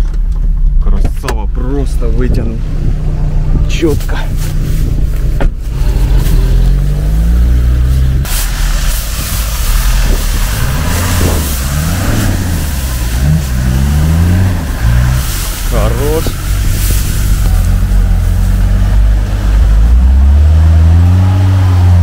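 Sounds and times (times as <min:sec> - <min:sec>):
engine revving: 0:02.6 - 0:22.0.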